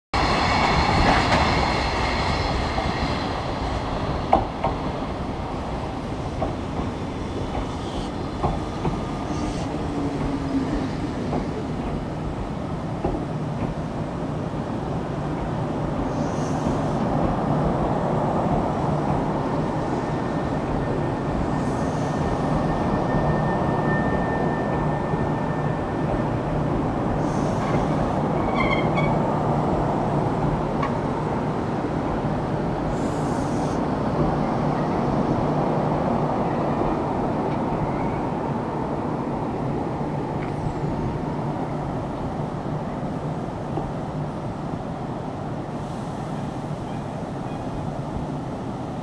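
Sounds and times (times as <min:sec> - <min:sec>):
electric train passing: 0:00.2 - 0:49.0.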